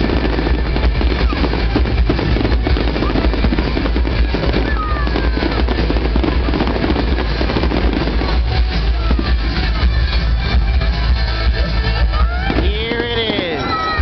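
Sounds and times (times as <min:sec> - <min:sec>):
fireworks bursting and crackling: 0:00.0 - 0:14.0
music playing: 0:00.0 - 0:14.0.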